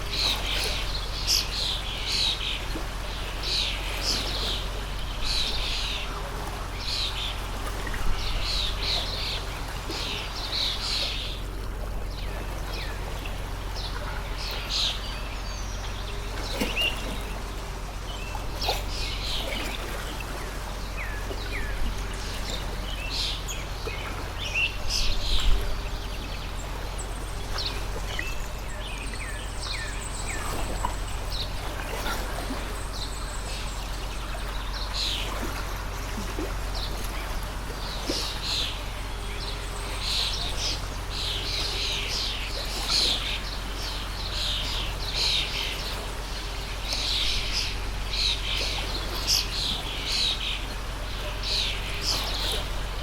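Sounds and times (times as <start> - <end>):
small birds chirping: 0.0 - 53.0
stream trickling: 0.0 - 53.0.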